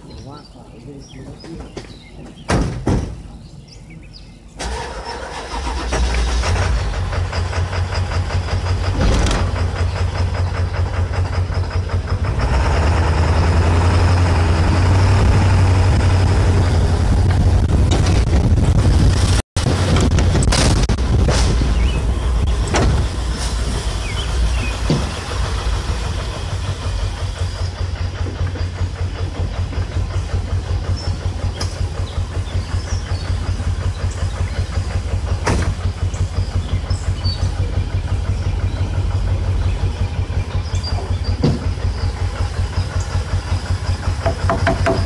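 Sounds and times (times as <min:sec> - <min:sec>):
tow truck engine throbbing: 0:00.0 - 0:45.0.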